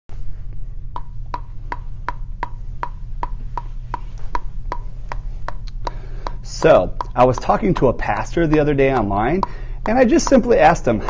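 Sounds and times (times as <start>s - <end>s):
low steady hum: 0.1s - 11.0s
ping pong ball bouncing on paddle: 0.9s - 11.0s.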